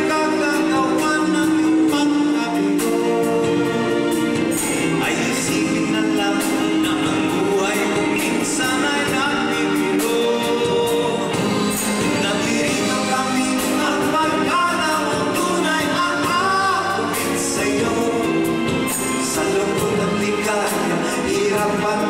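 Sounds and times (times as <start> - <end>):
live pop band: 0.0 - 22.0
man singing into a microphone: 0.0 - 22.0.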